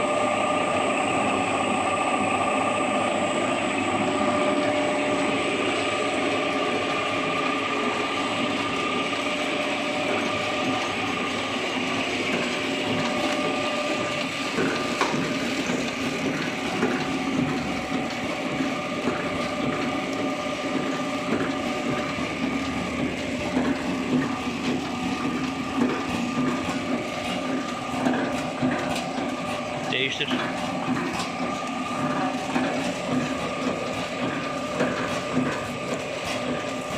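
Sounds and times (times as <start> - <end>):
packaging machine humming: 0.0 - 36.9.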